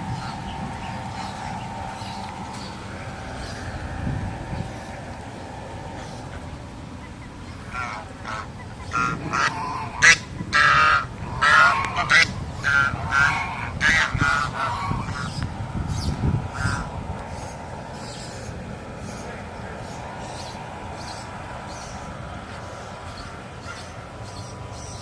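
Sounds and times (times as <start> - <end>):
waterfowl honking: 0.0 - 15.4, 16.5 - 16.9, 19.1 - 25.0
low background rumble: 0.0 - 25.0.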